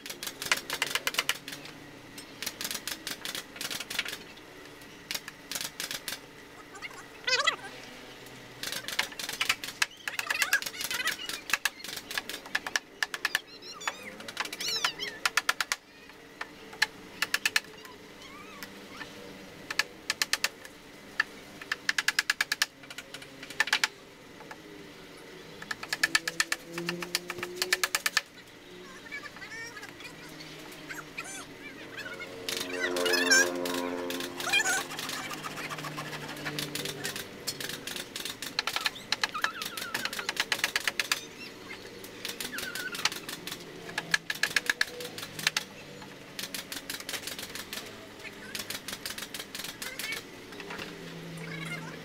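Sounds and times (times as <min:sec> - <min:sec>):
rapid sharp clicking on bamboo: 0:00.0 - 0:06.3, 0:08.2 - 0:17.9, 0:19.6 - 0:24.6, 0:25.6 - 0:28.4, 0:32.4 - 0:51.2.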